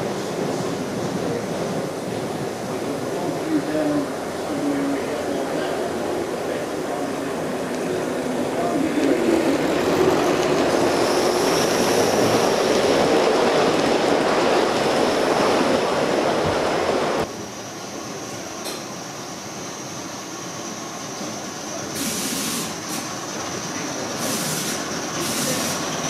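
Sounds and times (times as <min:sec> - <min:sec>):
model train wheels on rails: 0:00.0 - 0:26.0.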